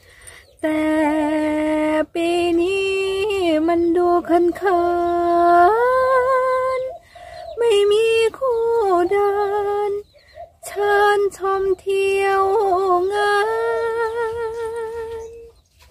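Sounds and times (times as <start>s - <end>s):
woman singing unaccompanied: 0.0s - 15.6s.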